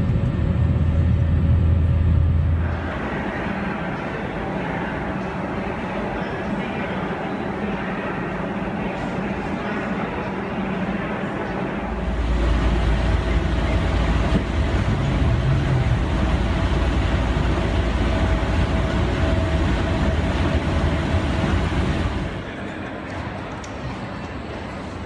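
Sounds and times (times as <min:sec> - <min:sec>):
moving walkway rumble: 0:00.0 - 0:24.3.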